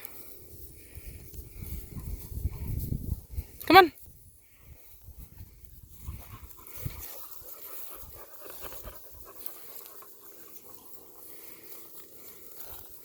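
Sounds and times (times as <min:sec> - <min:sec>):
rustling through brush: 0:00.0 - 0:13.0
dogs panting: 0:00.1 - 0:03.6, 0:04.4 - 0:13.0.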